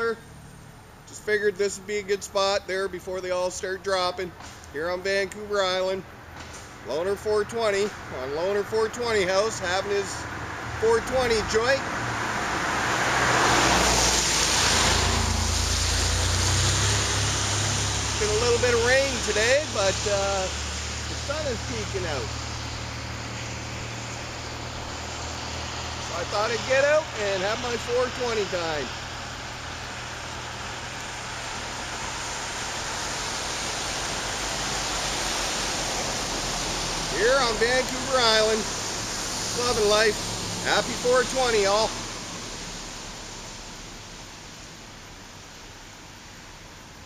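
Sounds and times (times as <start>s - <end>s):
low engine hum: 0.0s - 47.0s
tyres hissing on wet road: 0.0s - 47.0s.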